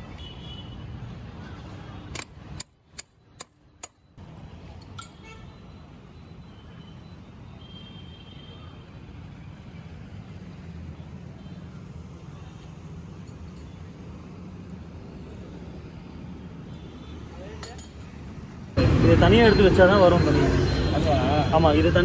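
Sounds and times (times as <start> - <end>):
road vehicles rumbling: 0.0 - 22.0.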